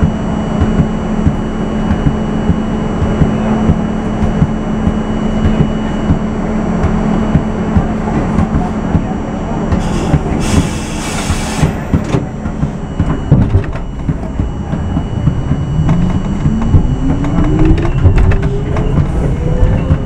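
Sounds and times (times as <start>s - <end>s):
train car rumbling and clanking: 0.0s - 20.0s
train motors whining: 0.0s - 20.0s.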